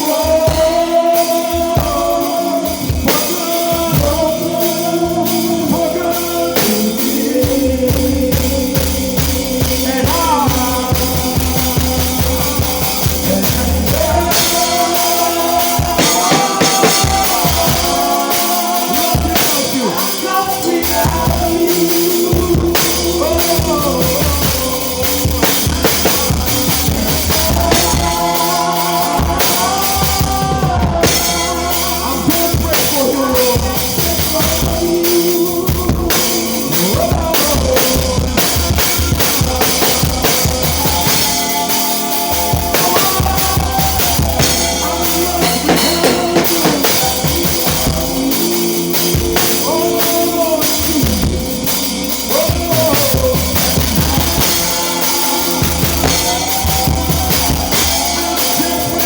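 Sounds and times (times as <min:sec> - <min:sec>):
drum kit beat: 0:00.0 - 0:59.0
live band instrumental groove: 0:00.0 - 0:59.0.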